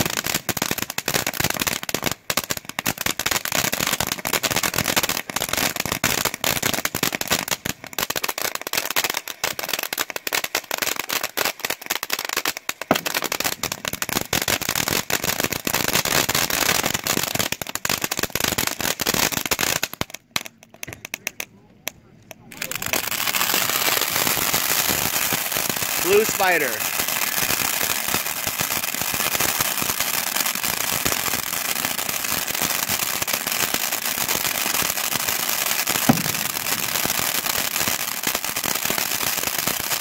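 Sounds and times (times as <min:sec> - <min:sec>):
firework fountain hissing and crackling: 0:00.0 - 0:40.0.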